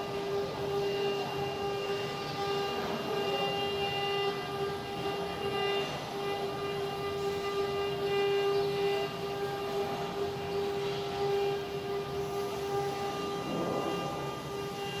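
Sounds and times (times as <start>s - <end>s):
spindle motor high whine: 0.0s - 15.0s.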